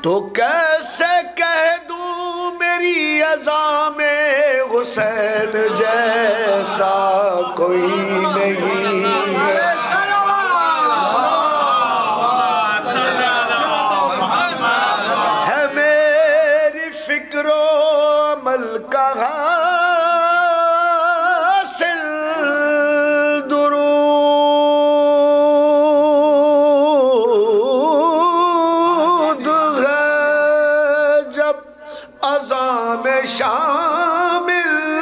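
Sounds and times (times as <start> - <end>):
man singing unaccompanied: 0.0 - 11.2, 15.2 - 35.0.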